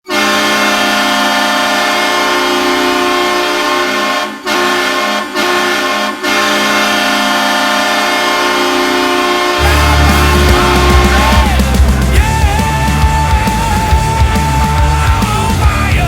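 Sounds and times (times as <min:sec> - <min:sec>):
arena goal horn blast: 0:00.0 - 0:14.0.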